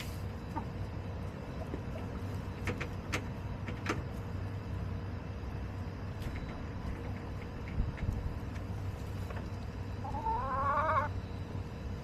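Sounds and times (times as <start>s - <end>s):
hens pecking and scratching: 0.0s - 5.0s, 5.7s - 12.0s
steady low hum: 0.0s - 12.0s.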